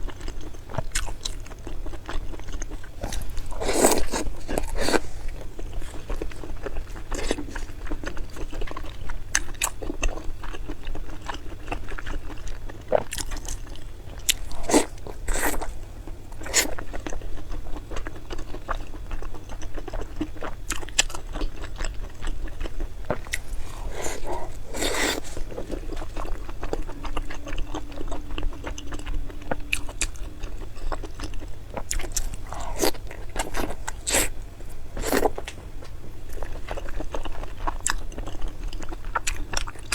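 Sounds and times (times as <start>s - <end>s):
crunchy bites and chewing: 0.0s - 39.9s.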